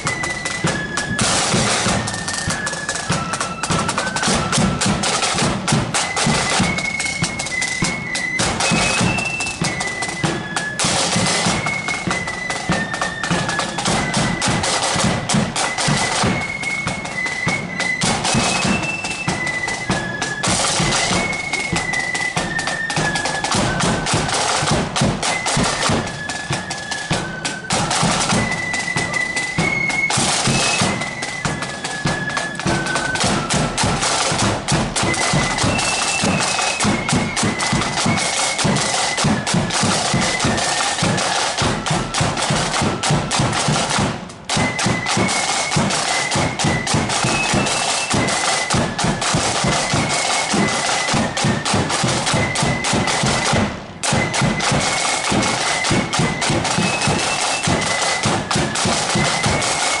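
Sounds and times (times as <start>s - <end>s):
flutes playing melody: 0.0s - 60.0s
rapid snare drumming: 0.0s - 60.0s.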